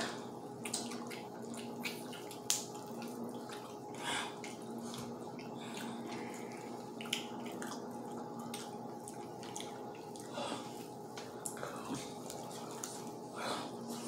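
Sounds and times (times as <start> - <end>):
chewing with crackles: 0.0 - 14.0
steady background hum: 0.0 - 14.0.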